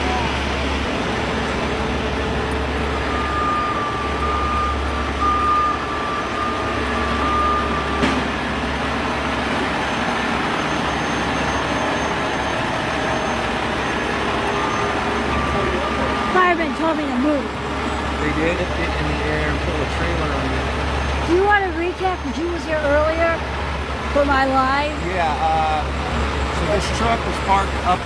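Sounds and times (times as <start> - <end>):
reversing alarm: 0.0 - 23.5
heavy truck engines running: 0.0 - 28.0.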